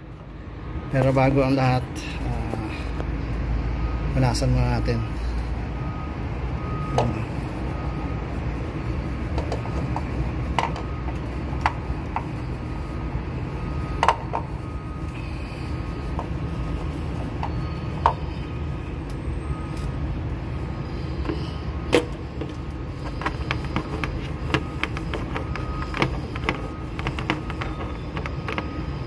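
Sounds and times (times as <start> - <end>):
steady low rumble: 0.0 - 27.6.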